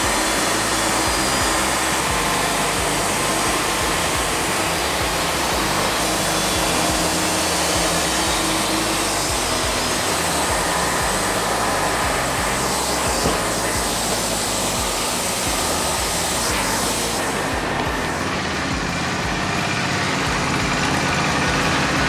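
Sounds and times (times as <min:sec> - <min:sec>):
bandsaw mill running: 0:00.0 - 0:22.0.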